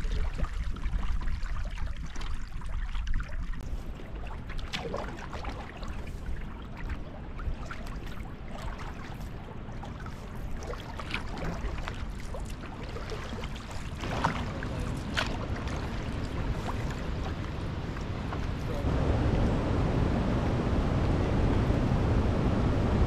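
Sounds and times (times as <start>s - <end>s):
paddle splashes: 0.0s - 19.4s
low rumble of wind: 0.0s - 23.0s
water lapping along hull: 0.0s - 23.0s.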